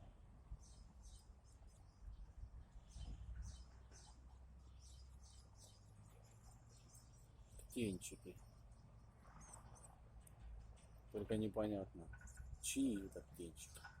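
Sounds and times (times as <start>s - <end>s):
nestling birds cheeping: 0.5s - 14.0s.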